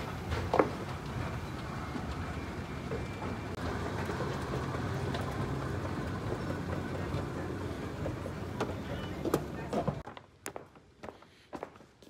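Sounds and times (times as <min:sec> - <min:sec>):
escalator rumble and hum: 0:00.0 - 0:10.0.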